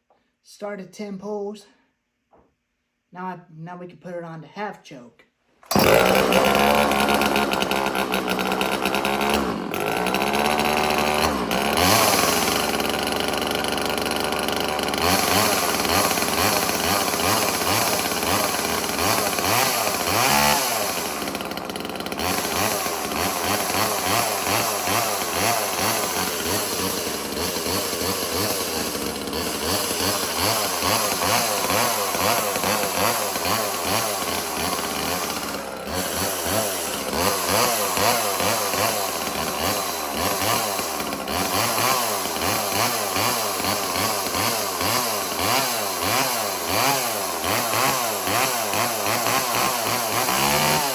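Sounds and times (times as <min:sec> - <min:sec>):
chainsaw engine revving: 0:05.6 - 0:50.9.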